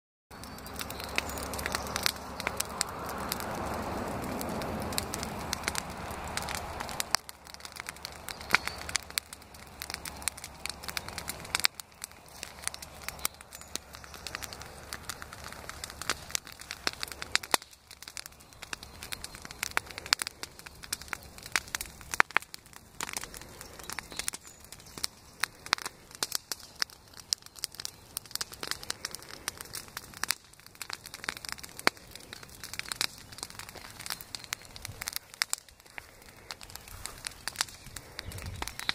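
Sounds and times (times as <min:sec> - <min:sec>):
bonfire crackling and popping: 0:00.3 - 0:38.9.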